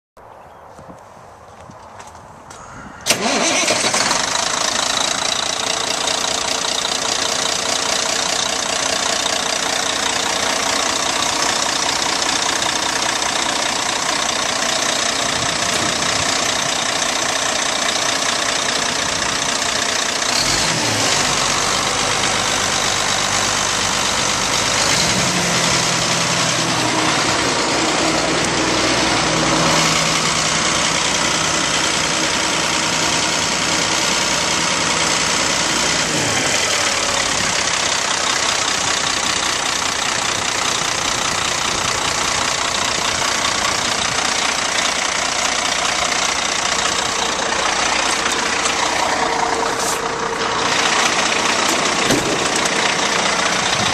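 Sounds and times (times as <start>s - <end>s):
diesel truck engine starting and idling: 3.0s - 53.9s.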